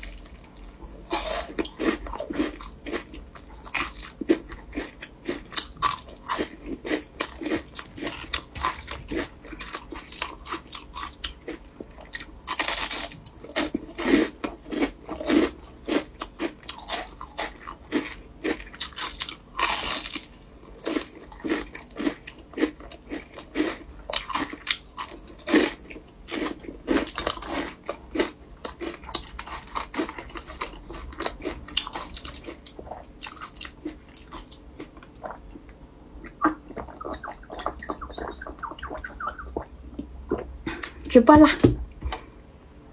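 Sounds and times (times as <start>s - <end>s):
crunching pastry: 0.0s - 35.6s.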